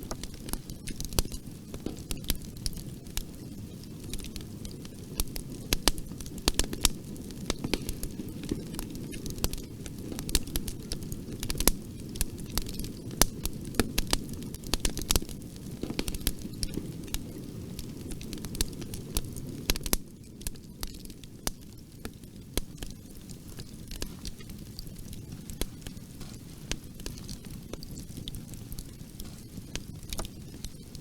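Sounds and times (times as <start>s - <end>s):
bonfire flames rushing: 0.0s - 31.0s
burning wood crackling and popping: 0.0s - 31.0s.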